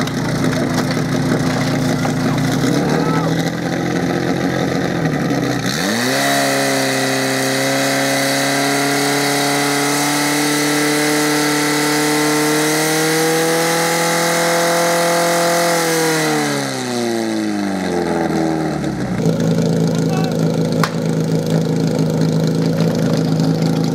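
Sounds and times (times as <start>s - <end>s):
pump engine at high revs: 0.0s - 23.9s.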